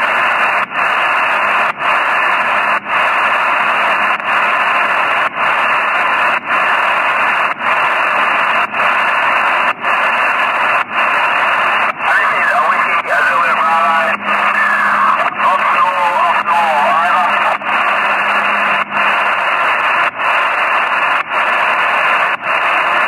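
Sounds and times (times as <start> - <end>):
shortwave radio static hiss: 0.0 - 23.0.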